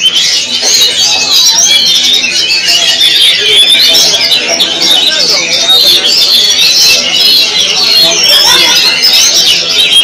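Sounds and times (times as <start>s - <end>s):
caged songbirds singing: 0.0s - 10.0s.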